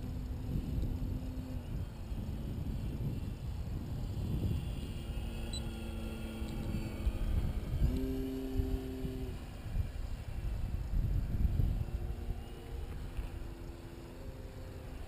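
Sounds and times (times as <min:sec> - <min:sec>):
model plane motor humming: 0:00.0 - 0:15.0
wind buffeting microphone: 0:00.0 - 0:15.0.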